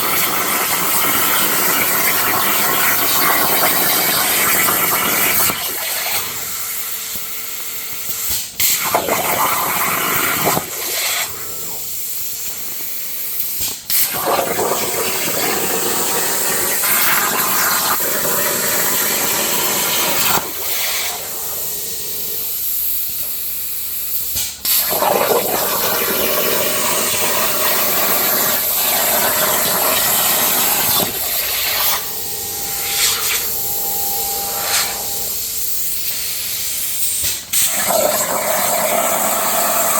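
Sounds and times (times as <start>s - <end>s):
plasma torch cutting steel: 0.0s - 39.9s.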